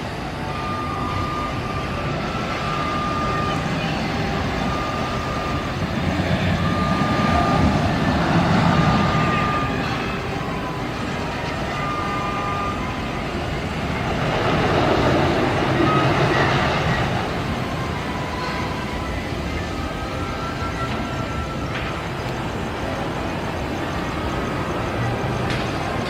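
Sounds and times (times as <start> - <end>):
heavy equipment engine rumble: 0.0 - 26.0
reversing alarm beeping: 0.0 - 26.0.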